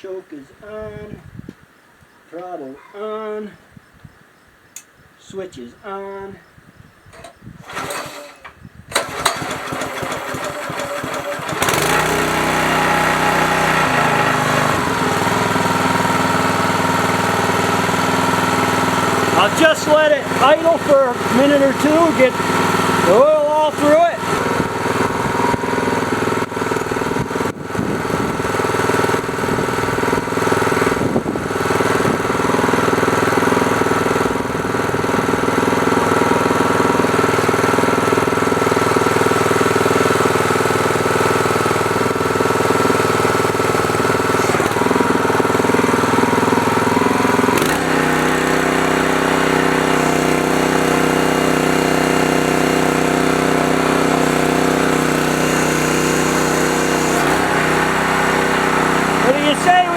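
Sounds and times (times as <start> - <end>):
small gasoline engine idling: 7.6 - 59.9.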